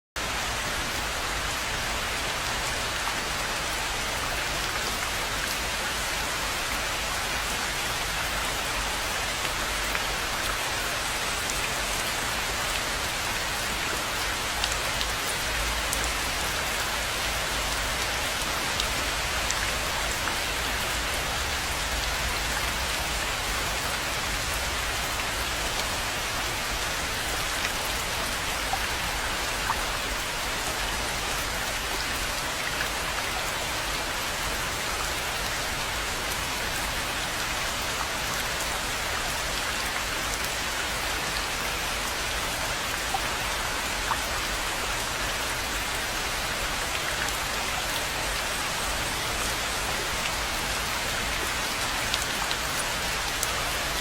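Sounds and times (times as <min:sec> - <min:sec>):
rain falling on a pond: 0:00.2 - 0:54.0.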